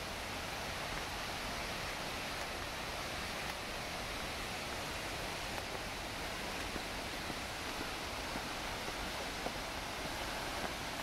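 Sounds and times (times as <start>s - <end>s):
distant waterfall rushing: 0.0s - 11.0s.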